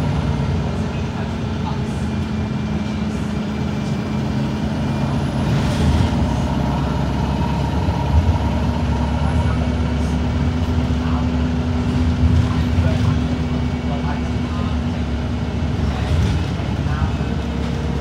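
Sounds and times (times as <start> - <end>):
bus diesel engine droning: 0.0 - 18.0.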